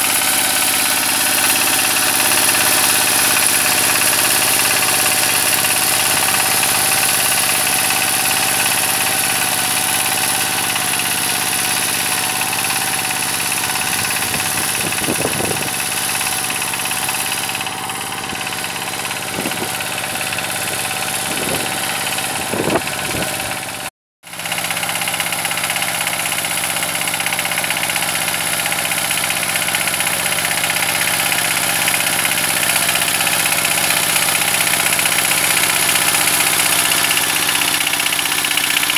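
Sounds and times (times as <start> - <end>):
diesel tiller engine running: 0.0 - 38.9
rotary tiller in soil: 0.0 - 38.9.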